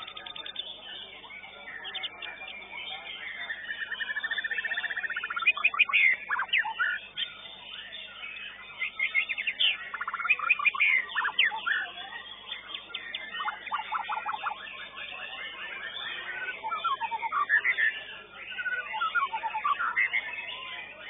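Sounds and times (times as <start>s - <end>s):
songbird trills and chirps: 0.0s - 21.0s.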